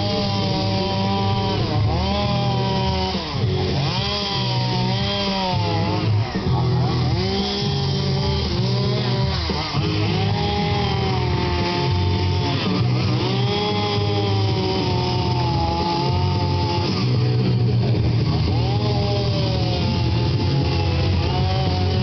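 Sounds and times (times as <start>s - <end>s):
chainsaw running at high revs: 0.0s - 22.0s.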